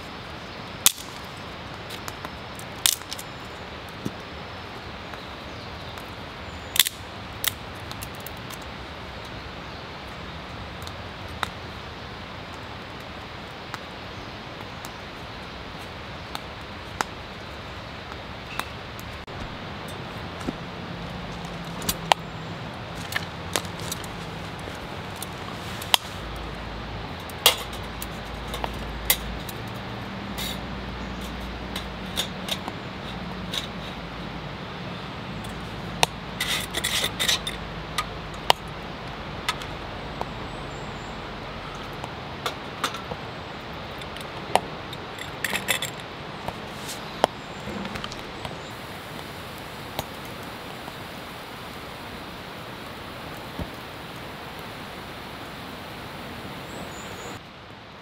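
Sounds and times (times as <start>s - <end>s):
twig fire crackling: 0.0s - 58.0s.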